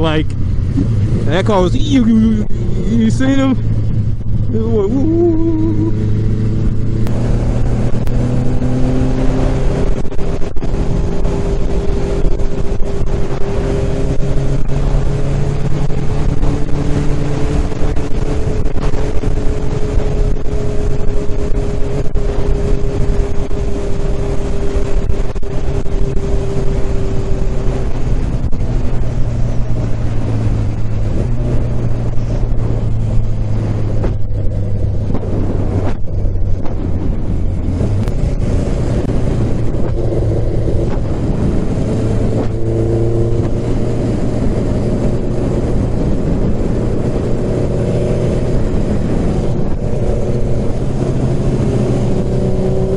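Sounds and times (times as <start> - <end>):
motorcycle engine running: 0.0 - 52.9
road noise: 0.0 - 52.9
rushing wind: 0.0 - 52.9.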